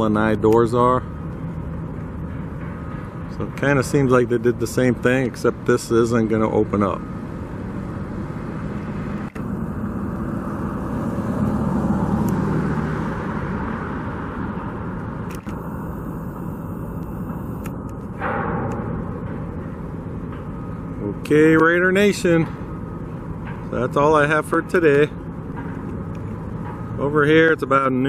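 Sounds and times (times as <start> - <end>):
road traffic rumble: 0.0 - 28.0
wind: 0.0 - 28.0.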